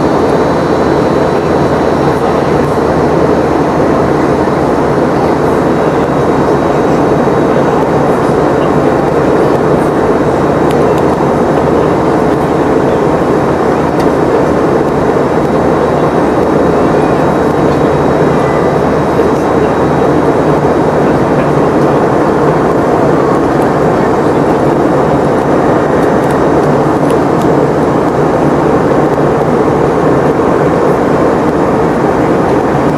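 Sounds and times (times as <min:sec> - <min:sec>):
jet engines and airflow rushing: 0:00.0 - 0:32.9.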